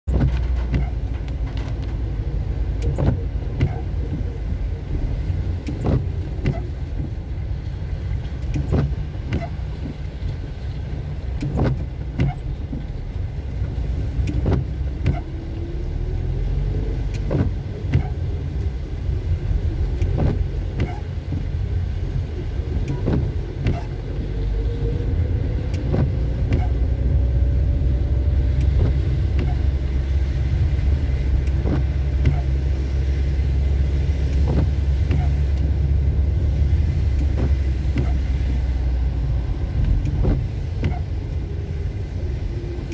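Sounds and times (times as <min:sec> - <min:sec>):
car engine and road rumble: 0:00.0 - 0:42.9
sharp rain ticks: 0:00.1 - 0:42.9.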